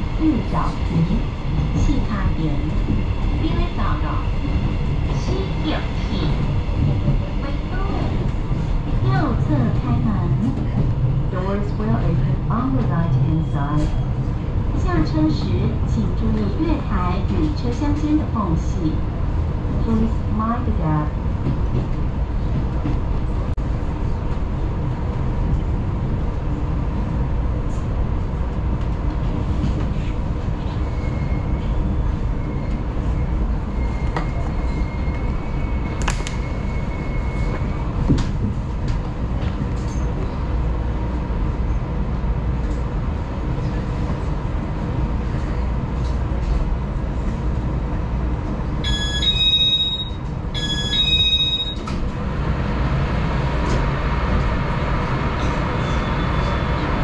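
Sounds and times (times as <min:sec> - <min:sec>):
electric train rumbling: 0:00.0 - 0:57.0
rail noise: 0:00.0 - 0:57.0.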